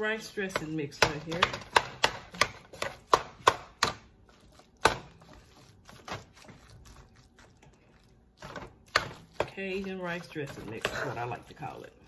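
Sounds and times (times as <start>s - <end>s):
stirring and scraping: 0.0s - 12.0s.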